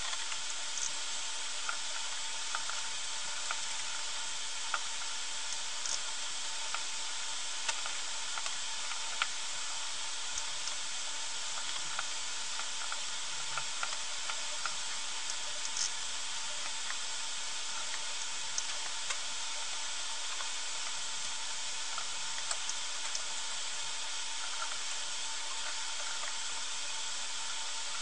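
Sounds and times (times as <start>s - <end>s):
faint constant tone: 0.0s - 28.0s
high-pitched hiss: 0.0s - 28.0s.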